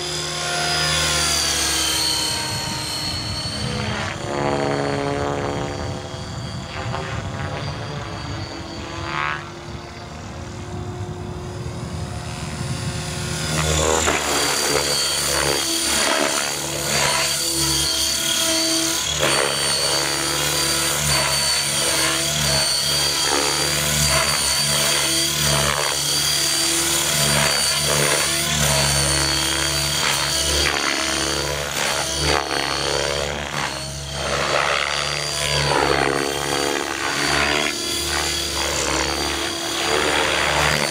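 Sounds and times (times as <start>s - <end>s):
electric motor whining: 0.0s - 40.9s
helicopter rotor blades beating: 0.0s - 40.9s.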